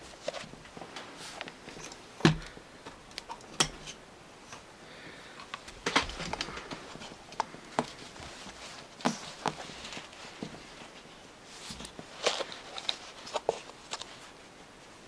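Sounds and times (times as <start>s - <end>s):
light cloth rustle: 0.0s - 3.0s, 5.6s - 15.0s.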